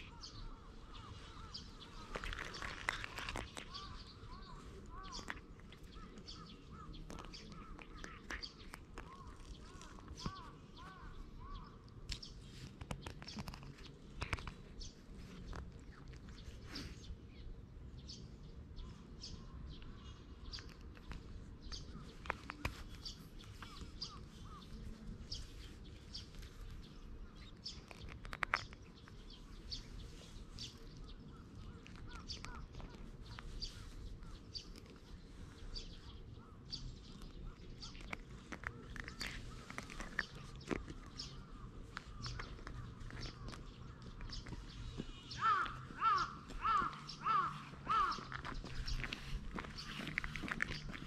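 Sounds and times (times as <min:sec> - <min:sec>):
low outdoor rumble: 0:00.0 - 0:51.0
small birds chirping: 0:00.0 - 0:51.0.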